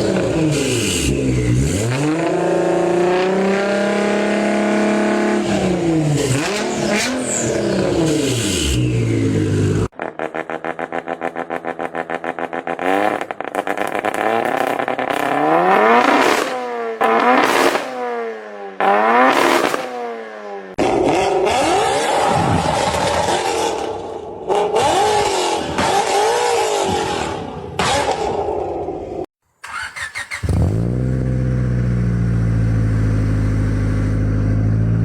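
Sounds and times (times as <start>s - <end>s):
engine revving in wavering pitch: 0.0s - 20.2s, 20.8s - 35.0s
vehicle engine idling and revving: 0.0s - 35.0s.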